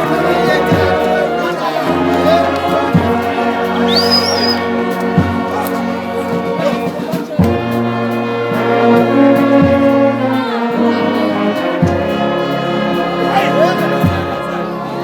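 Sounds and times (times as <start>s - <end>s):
brass band playing slow chords: 0.0s - 15.0s.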